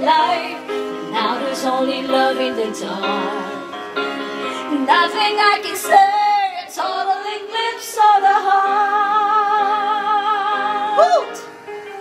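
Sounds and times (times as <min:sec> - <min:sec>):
women singing karaoke: 0:00.0 - 0:11.5
music backing track: 0:00.0 - 0:12.0.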